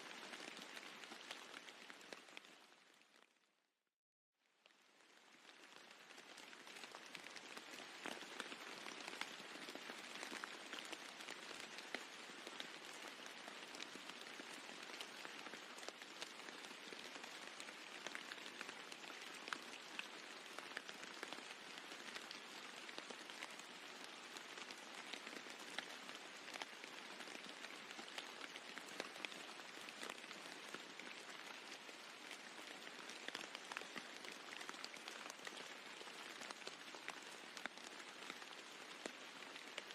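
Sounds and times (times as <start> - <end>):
rain falling on a roof: 0.0 - 3.8, 4.4 - 39.9.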